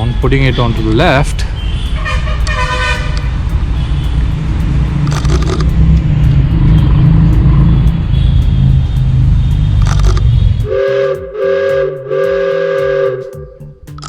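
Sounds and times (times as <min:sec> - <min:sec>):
vehicle passing rumble: 0:00.0 - 0:14.0.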